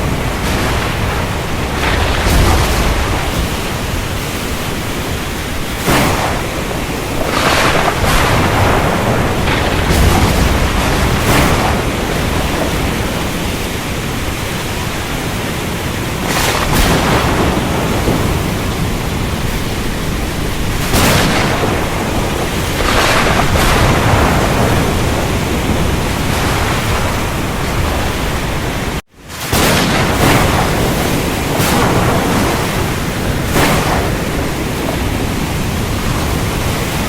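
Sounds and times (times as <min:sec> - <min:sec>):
rain hissing: 0:00.0 - 0:37.0
thunder rumble: 0:00.0 - 0:37.0.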